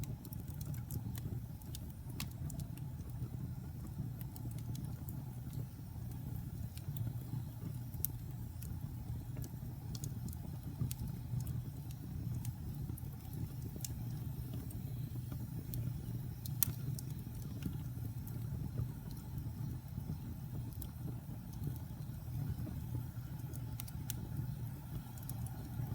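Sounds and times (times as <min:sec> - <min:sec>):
fire popping: 0:00.0 - 0:25.9
wood fire crackling: 0:00.0 - 0:25.9.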